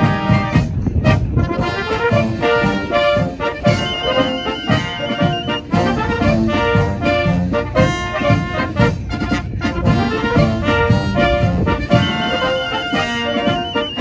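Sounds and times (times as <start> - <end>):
brass band playing a lively tune: 0.0 - 14.0.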